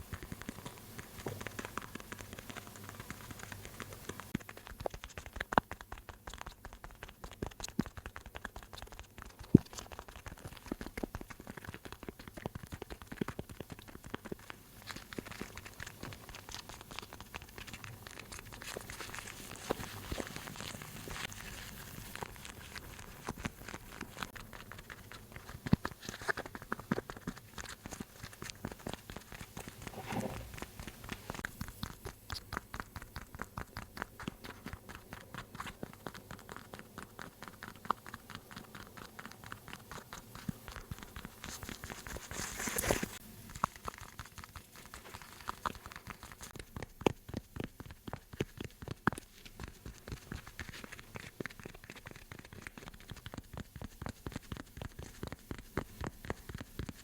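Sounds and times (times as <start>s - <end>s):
light tapping and scratching: 0.0s - 57.0s
rustling: 8.8s - 57.0s.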